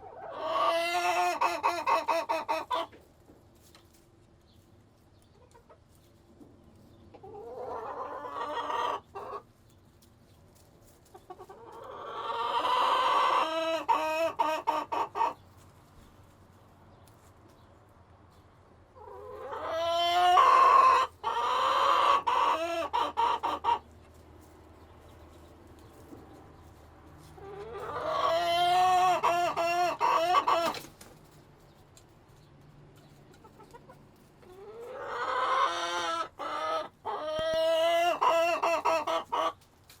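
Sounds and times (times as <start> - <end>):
chicken calls: 0.0 - 10.0, 11.0 - 17.7, 18.3 - 39.9
chicken coop background: 0.0 - 40.0.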